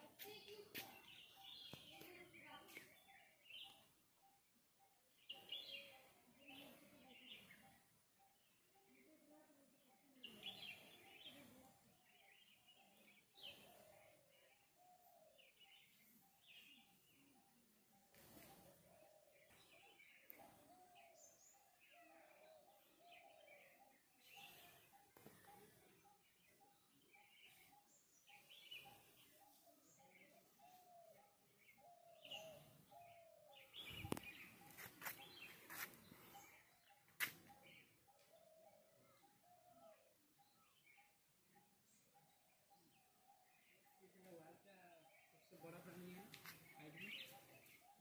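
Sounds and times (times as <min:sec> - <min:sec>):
faint birdsong chirping: 0:00.0 - 0:48.0.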